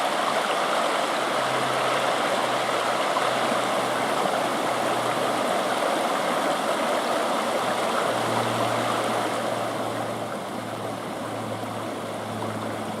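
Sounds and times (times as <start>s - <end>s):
stream flowing: 0.0s - 13.0s.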